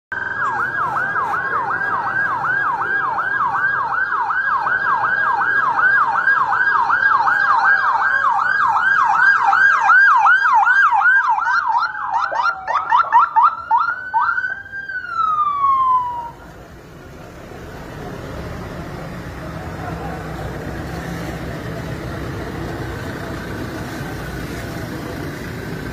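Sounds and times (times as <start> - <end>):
emergency siren yelp and wail: 0.1 - 25.9.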